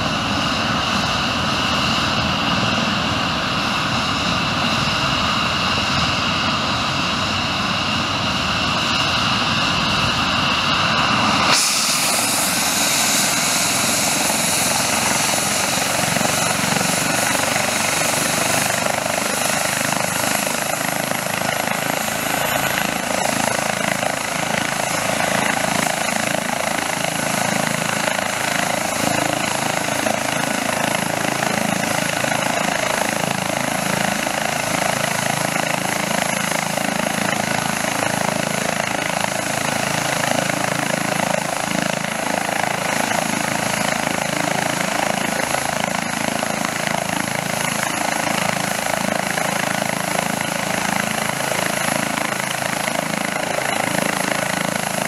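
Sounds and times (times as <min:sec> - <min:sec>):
helicopter turbine whine and rotors: 0:00.0 - 0:55.0.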